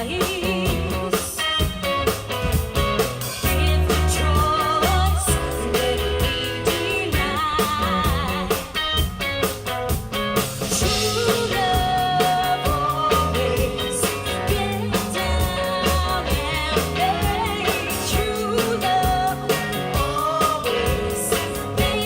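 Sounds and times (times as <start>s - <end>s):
woman singing: 0.0s - 2.4s, 3.3s - 9.2s, 10.7s - 22.0s
drum beat: 0.0s - 22.0s
live rock-pop band: 0.0s - 22.0s.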